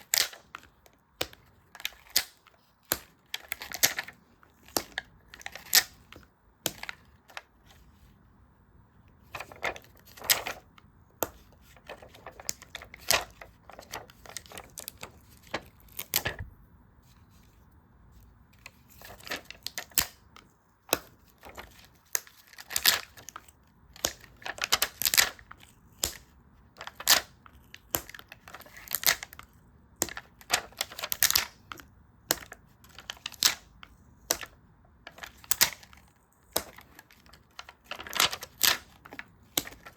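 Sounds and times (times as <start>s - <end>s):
paper and stickers crinkling: 0.0s - 8.2s, 9.2s - 39.9s.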